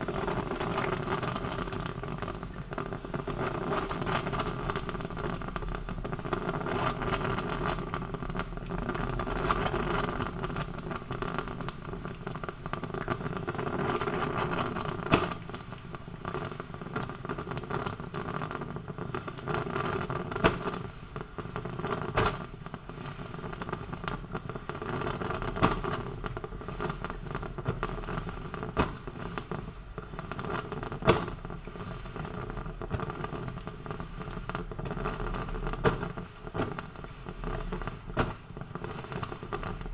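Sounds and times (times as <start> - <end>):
coffee maker hissing: 0.0 - 39.9.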